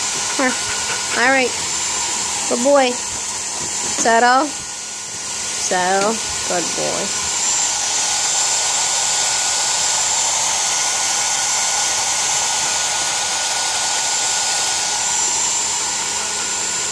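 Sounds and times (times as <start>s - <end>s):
blow dryer running: 0.0s - 16.9s.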